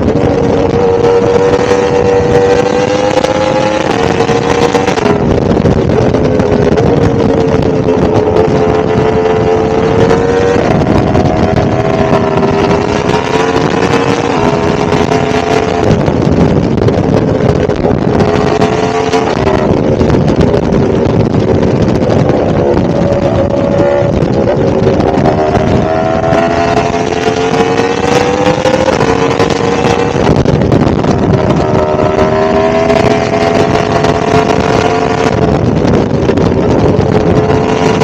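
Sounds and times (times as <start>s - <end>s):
motorcycle engine cruising: 0.0s - 38.0s.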